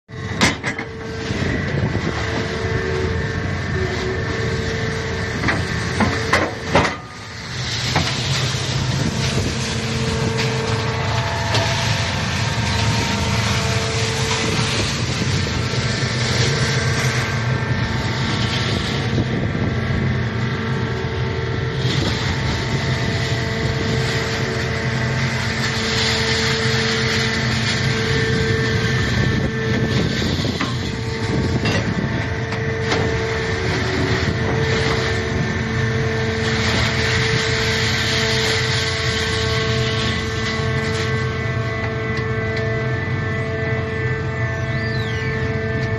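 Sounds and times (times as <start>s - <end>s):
scrap metal baler running: 0.1s - 45.9s.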